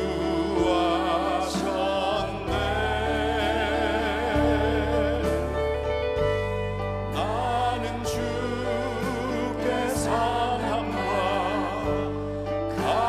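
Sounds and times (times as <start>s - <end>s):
man singing with vibrato: 0.0s - 5.9s, 7.1s - 13.0s
backing singers: 0.0s - 6.3s, 7.0s - 13.0s
keyboard accompaniment: 0.0s - 13.0s.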